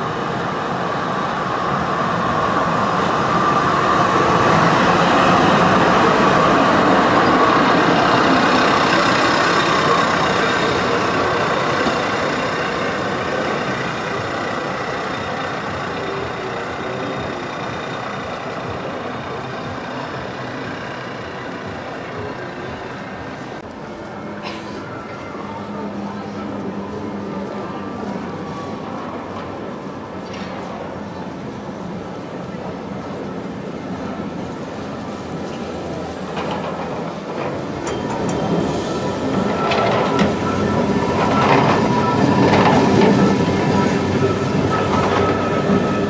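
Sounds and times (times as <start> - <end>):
tram passing with whine: 0.0 - 46.0.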